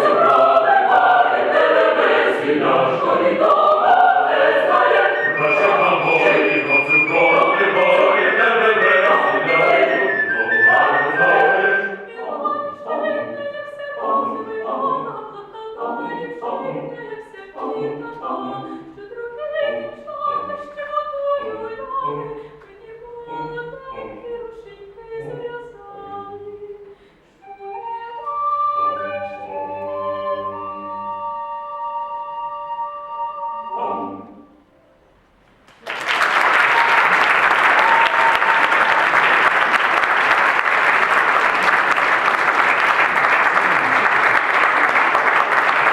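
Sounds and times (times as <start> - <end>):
mixed choir singing: 0.0 - 34.7, 36.4 - 45.9.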